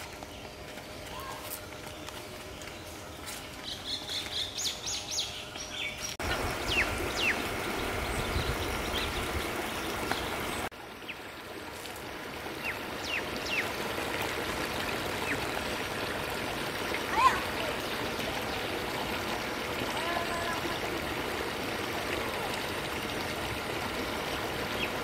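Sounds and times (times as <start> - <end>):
songbirds chirping: 0.0 - 21.0
steady outdoor hiss: 0.0 - 25.0.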